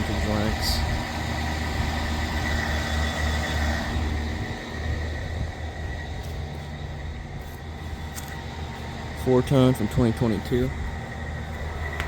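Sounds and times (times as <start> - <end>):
fan and air noise: 0.0 - 12.0
heat pump compressor hum: 0.0 - 12.0.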